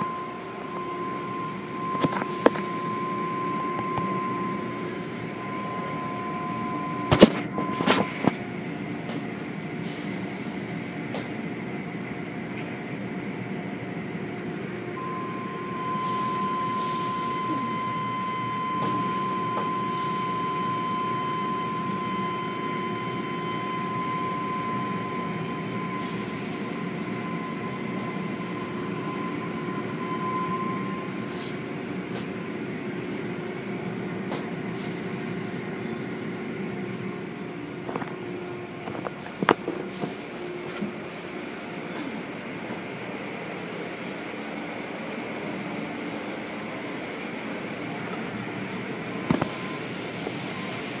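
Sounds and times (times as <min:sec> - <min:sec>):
car wash machinery hum: 0:00.0 - 0:51.0.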